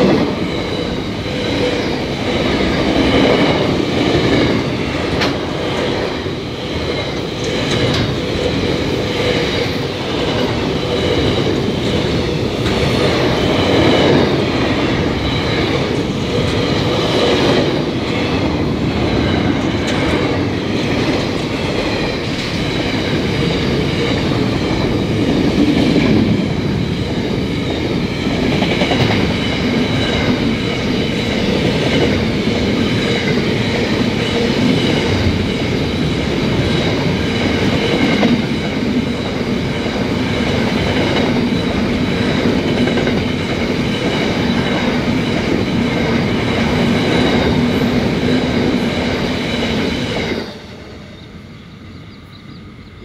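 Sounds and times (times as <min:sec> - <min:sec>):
clickety-clack over rail joints: 0:00.0 - 0:50.7
train wheels rumbling on rail: 0:00.0 - 0:53.0.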